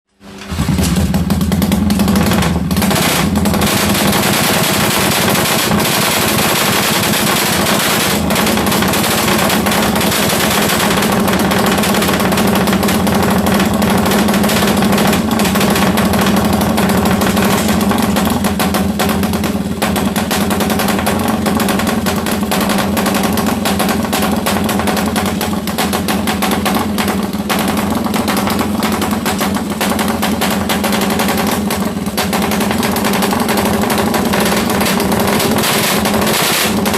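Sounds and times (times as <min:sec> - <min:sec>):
motorcycle engine running loud: 0:00.3 - 0:36.9.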